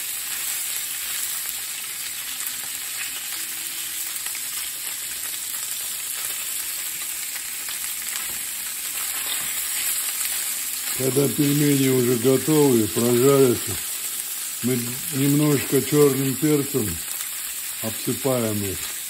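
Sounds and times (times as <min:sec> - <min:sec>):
dumplings sizzling with pops: 0:00.0 - 0:19.0.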